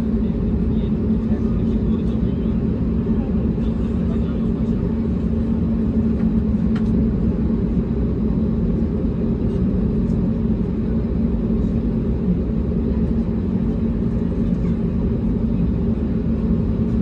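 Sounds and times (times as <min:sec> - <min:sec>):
jet engine drone: 0:00.0 - 0:17.0.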